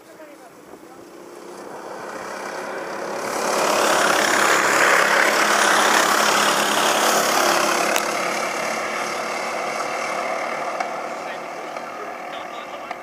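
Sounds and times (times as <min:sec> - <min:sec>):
racing kart engines passing: 0:00.0 - 0:13.0.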